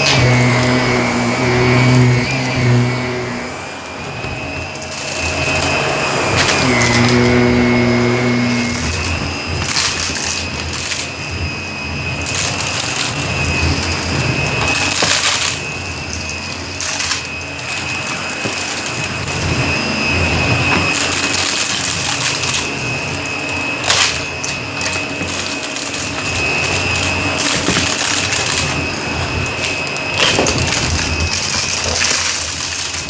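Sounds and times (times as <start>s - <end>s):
debris crunching in vacuum: 0.0s - 33.0s
vacuum cleaner whine: 0.0s - 33.0s.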